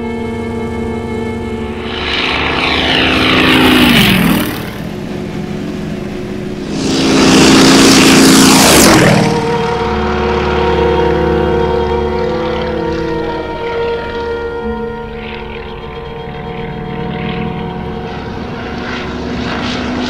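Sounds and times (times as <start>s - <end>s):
propeller airplanes passing: 0.0s - 20.0s.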